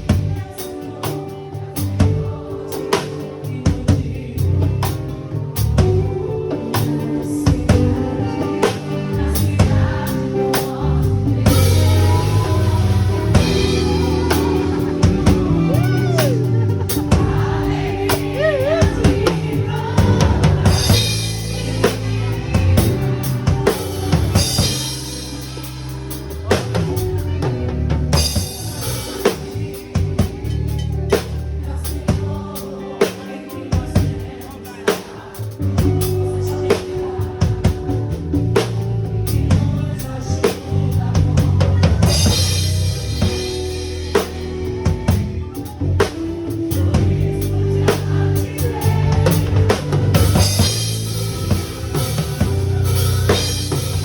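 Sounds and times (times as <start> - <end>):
bass and keyboard chords: 0.0 - 54.0
drum kit playing: 0.0 - 54.0
person singing: 0.0 - 54.0.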